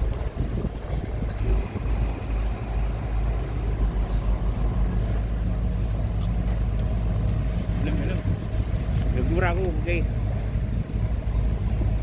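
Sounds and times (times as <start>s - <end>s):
heavy diesel engine rumbling: 0.0s - 12.0s.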